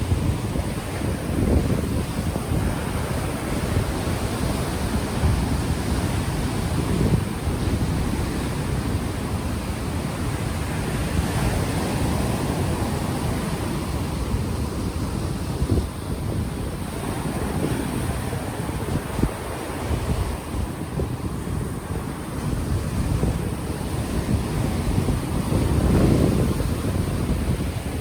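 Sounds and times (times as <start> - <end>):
ocean waves washing ashore: 0.0 - 28.0
wind buffeting microphone: 0.0 - 28.0.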